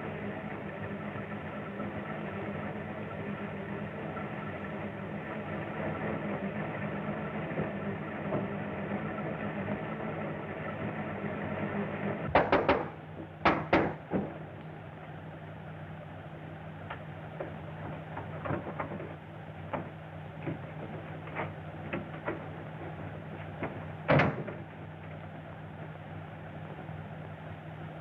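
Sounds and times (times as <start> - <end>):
low hum and hiss: 0.0 - 28.0.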